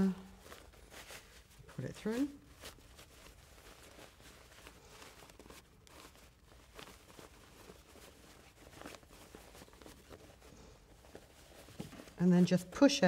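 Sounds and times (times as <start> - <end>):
fabric rustling and scuffing: 0.0 - 13.0.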